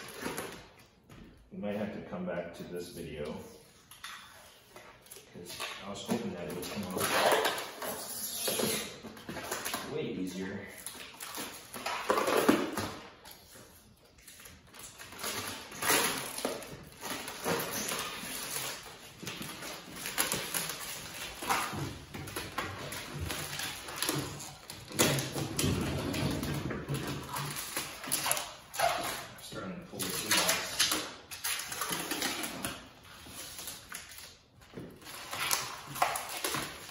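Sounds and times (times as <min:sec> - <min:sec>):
plastic film peeling and crackling: 0:00.0 - 0:01.1, 0:03.8 - 0:36.9.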